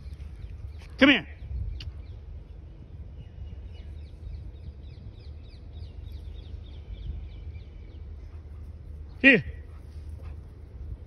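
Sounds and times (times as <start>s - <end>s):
low wind rumble: 0.0s - 11.0s
small birds chirping: 0.0s - 11.0s.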